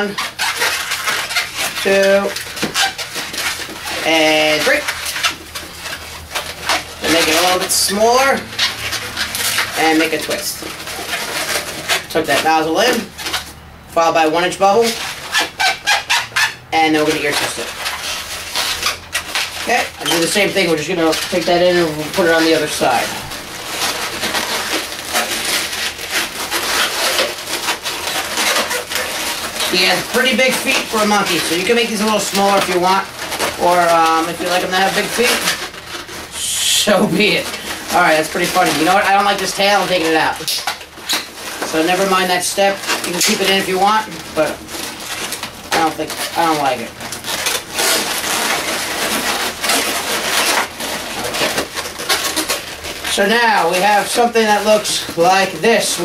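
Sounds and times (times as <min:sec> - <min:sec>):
balloons squeaking and creaking: 0:00.0 - 0:56.0.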